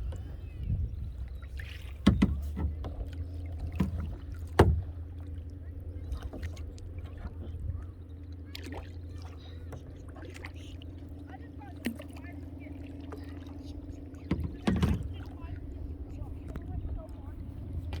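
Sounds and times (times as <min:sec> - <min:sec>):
steady low rumble: 0:00.0 - 0:18.0
water sloshing: 0:00.0 - 0:18.0.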